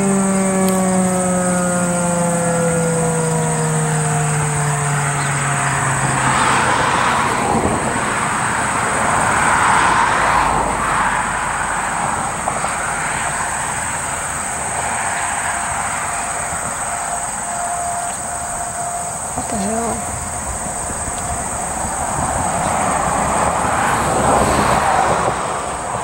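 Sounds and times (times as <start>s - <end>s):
high insect trill: 0.0s - 26.0s
vehicle passing by: 0.0s - 26.0s.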